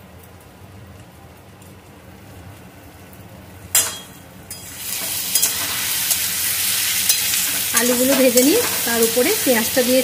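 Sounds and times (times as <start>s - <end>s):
food frying in oil: 0.0s - 10.0s.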